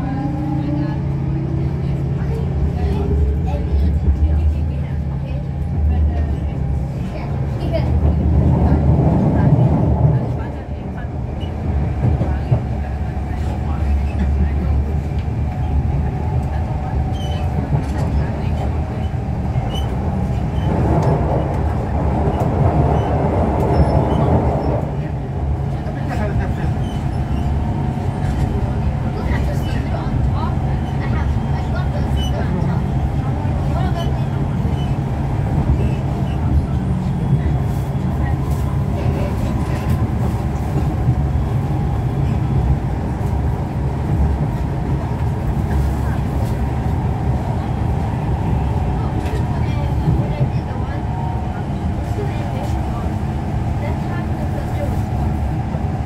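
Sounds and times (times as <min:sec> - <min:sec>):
metro train wheels rumbling: 0:00.0 - 0:56.0.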